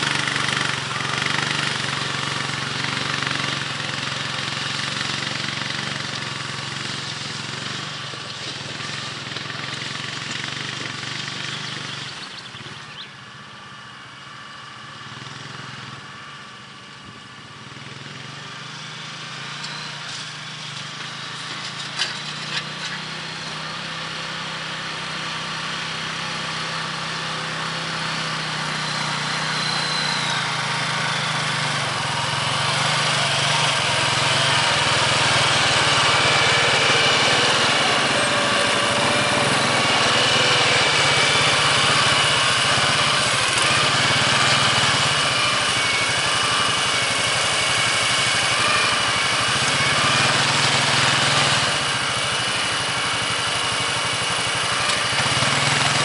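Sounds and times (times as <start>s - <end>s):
atv engine running under load: 0.0s - 56.0s.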